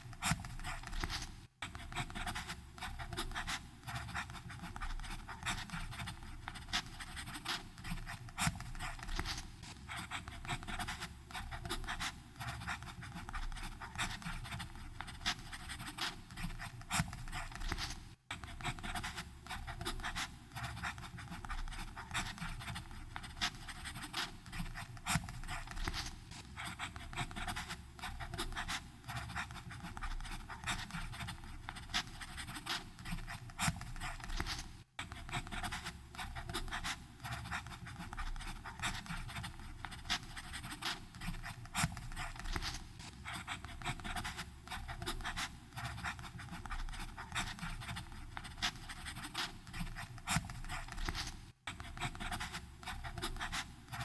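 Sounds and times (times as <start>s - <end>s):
pen nib scratching paper: 0.0s - 54.0s.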